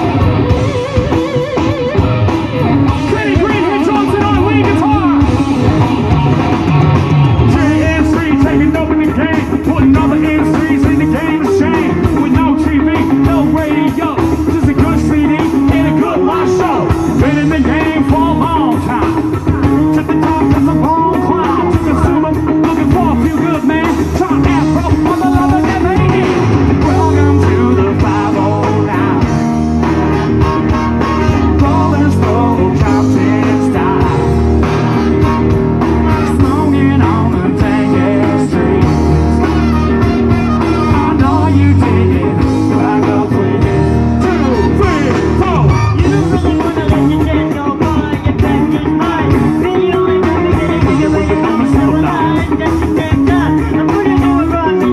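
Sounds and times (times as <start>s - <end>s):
live rock band with horns: 0.0s - 54.9s.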